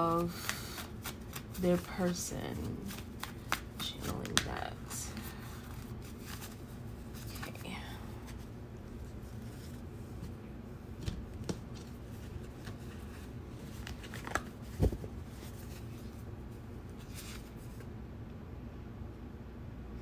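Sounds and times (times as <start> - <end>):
cards shuffled by hand: 0.0 - 10.4, 11.0 - 16.2, 16.9 - 17.9
steady low hum: 0.0 - 20.0.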